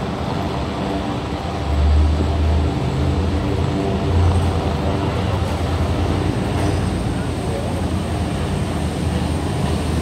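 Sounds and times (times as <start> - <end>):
ferry diesel engines droning: 0.0 - 10.0.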